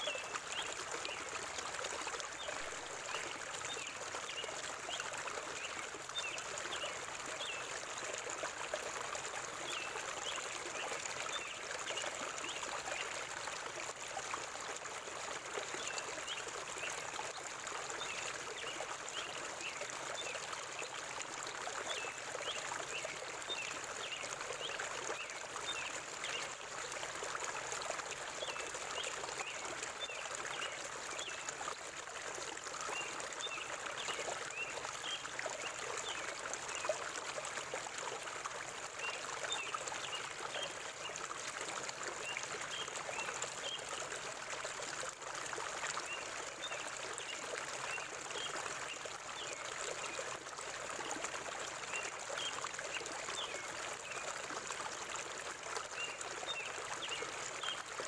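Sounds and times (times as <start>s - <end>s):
small water splashes: 0.0s - 58.0s.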